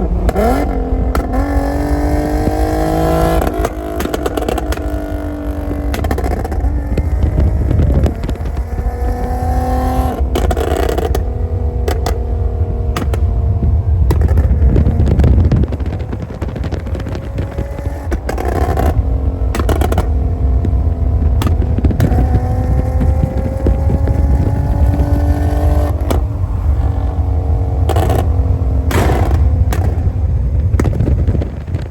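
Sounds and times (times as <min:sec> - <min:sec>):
car engine revving: 0:00.0 - 0:31.9
exhaust crackles and pops: 0:00.0 - 0:31.9.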